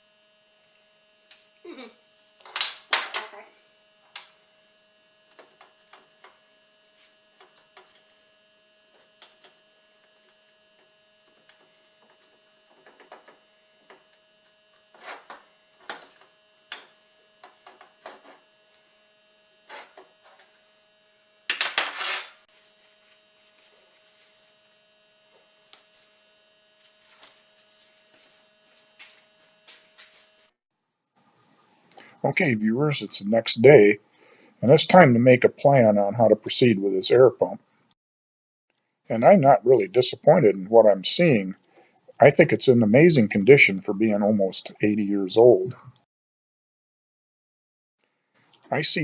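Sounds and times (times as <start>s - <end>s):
electrical hum: 0.0s - 30.6s, 31.3s - 37.8s, 39.1s - 46.0s, 48.4s - 49.0s.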